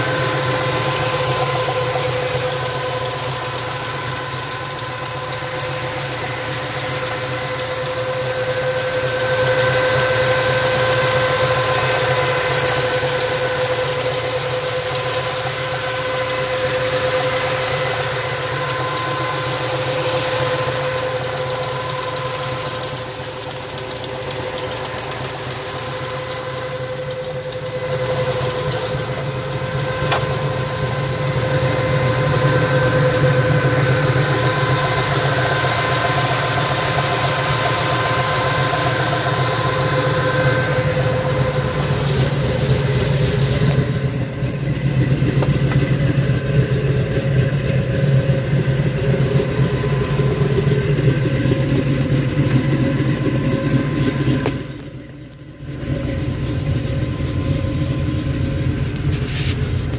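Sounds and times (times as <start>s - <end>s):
car engine idling: 0.0s - 59.9s
engine whine: 0.0s - 59.9s.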